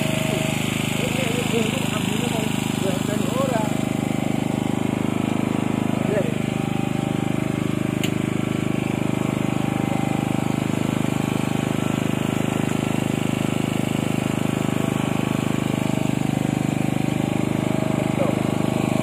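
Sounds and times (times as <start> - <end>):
small engine droning: 0.0 - 19.0.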